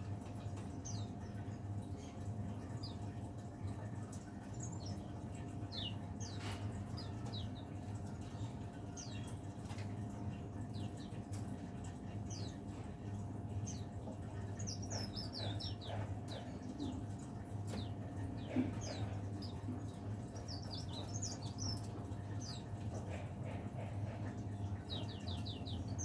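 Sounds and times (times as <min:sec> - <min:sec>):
steady low hum: 0:00.0 - 0:26.0
songbird chirping: 0:00.8 - 0:26.0.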